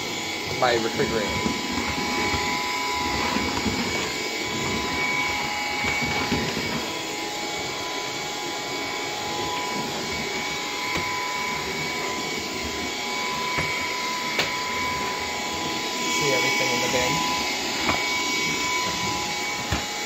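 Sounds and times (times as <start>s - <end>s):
stick vacuum motor whine: 0.0s - 20.0s.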